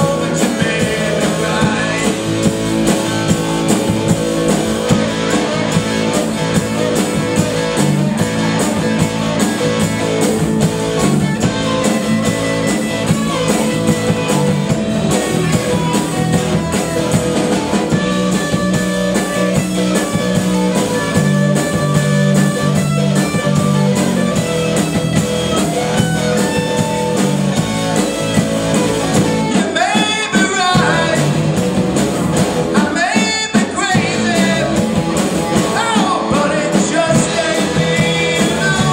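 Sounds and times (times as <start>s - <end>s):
bass line: 0.0s - 38.9s
electric guitar: 0.0s - 38.9s
rock band playing: 0.0s - 38.9s.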